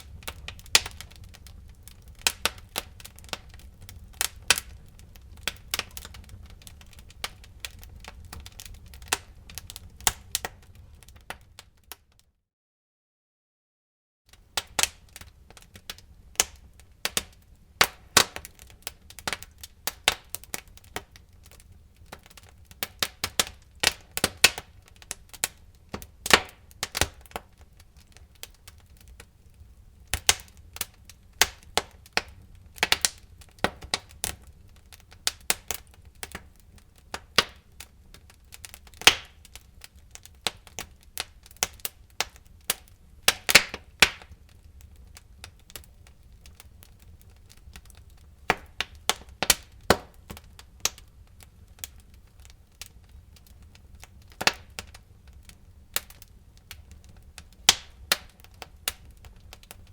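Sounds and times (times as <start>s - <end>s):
wood fire crackling: 0.0s - 12.2s, 14.3s - 59.9s.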